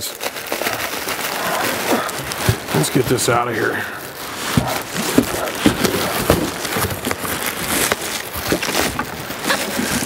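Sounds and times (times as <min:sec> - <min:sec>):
packing foam rustling and crackling: 0:00.0 - 0:10.0.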